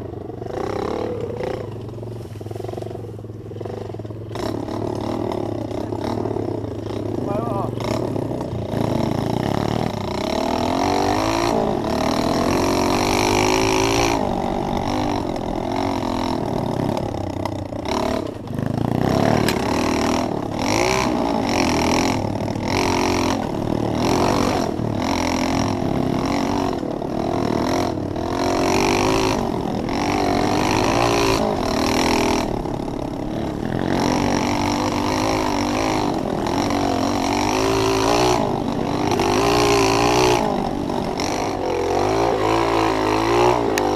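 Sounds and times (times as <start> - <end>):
small motorcycle engine revving: 0.0 - 43.9.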